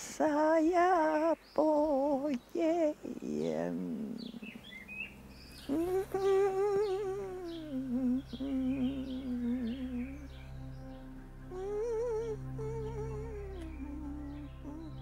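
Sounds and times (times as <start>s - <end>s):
faint birds chirping: 0.0s - 15.0s
person humming with vibrato: 1.9s - 4.8s, 5.5s - 15.0s.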